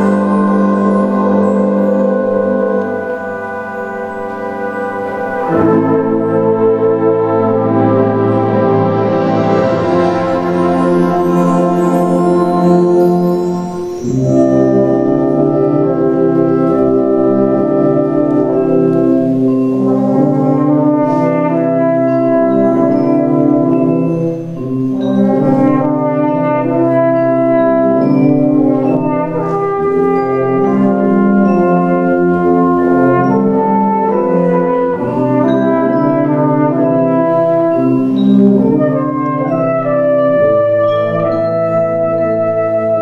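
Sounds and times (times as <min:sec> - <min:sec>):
brass band playing chords: 0:00.0 - 0:43.0
percussion strokes: 0:00.0 - 0:43.0.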